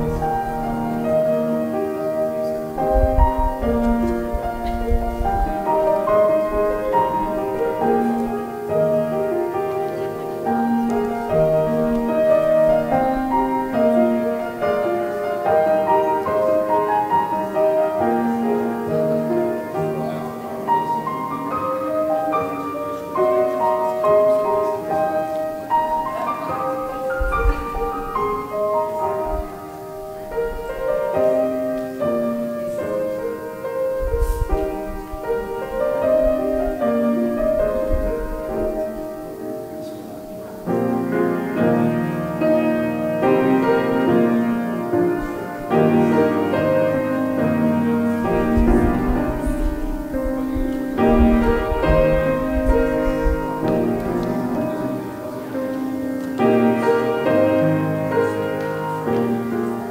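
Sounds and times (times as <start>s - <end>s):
grand piano playing: 0.0s - 59.9s.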